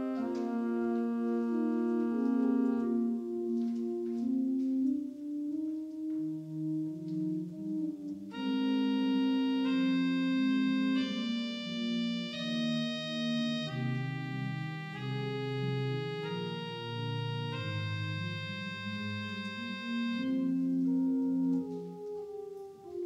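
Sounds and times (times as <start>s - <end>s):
church organ chords: 0.0s - 23.0s.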